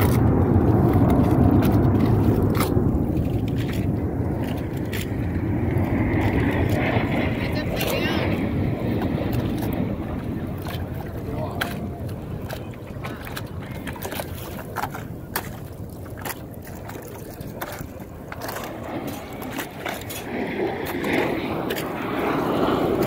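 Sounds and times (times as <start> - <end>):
jet flying: 0.0 - 23.0
water around a boat: 0.0 - 23.0
wind: 0.0 - 23.0.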